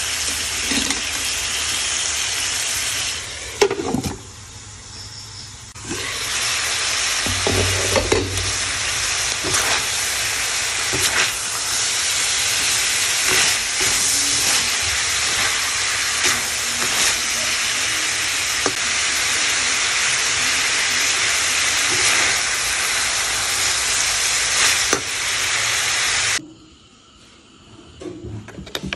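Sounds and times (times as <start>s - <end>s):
meat and peppers sizzling in pan: 0.0s - 26.4s.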